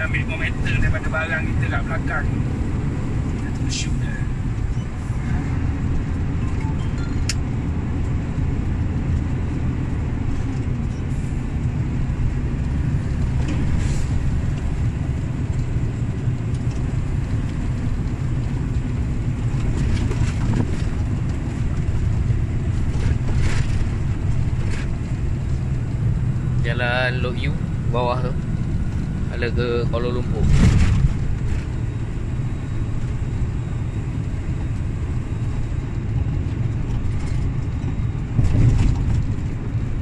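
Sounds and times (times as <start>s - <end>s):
road and tyre noise: 0.0s - 40.0s
truck diesel engine drone: 0.0s - 40.0s.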